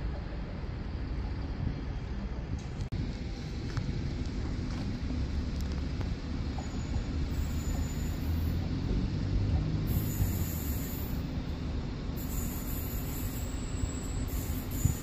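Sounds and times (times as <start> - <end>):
diesel train rumble: 0.0 - 15.0.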